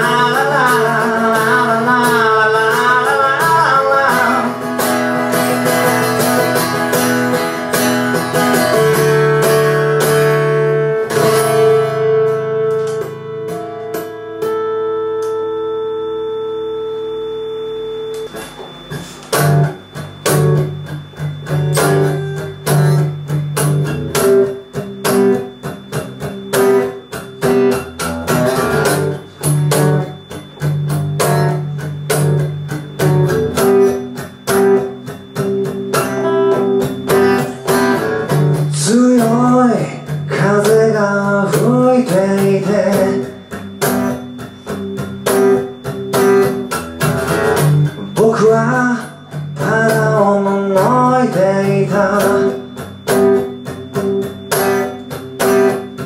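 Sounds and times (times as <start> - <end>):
acoustic guitar strumming: 0.0 - 56.0
bending guitar notes: 0.0 - 56.0.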